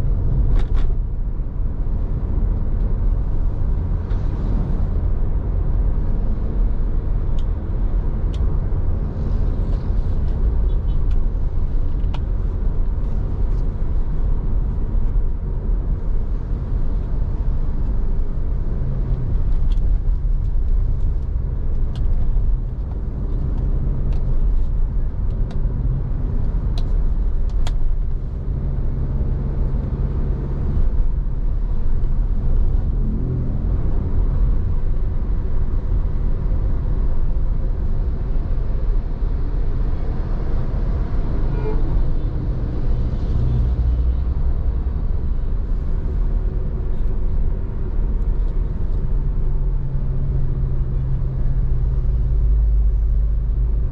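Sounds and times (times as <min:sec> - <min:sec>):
road traffic rumble: 0:00.0 - 0:53.9.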